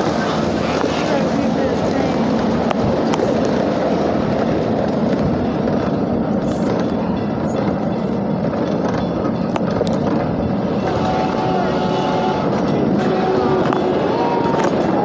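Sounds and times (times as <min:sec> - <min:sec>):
miniature train rumbling on track: 0:00.0 - 0:15.0.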